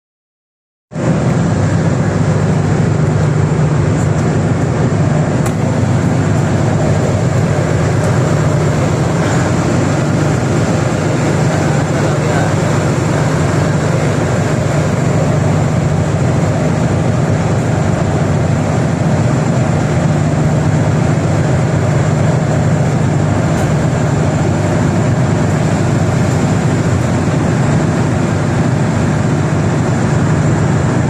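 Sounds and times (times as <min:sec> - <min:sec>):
vehicle engine drone: 0:00.9 - 0:31.0.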